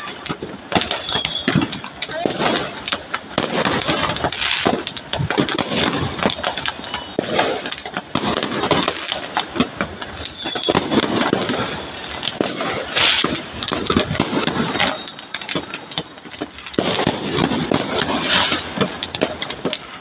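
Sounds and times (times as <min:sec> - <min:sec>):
fireworks and firecrackers crackling: 0:00.0 - 0:20.0.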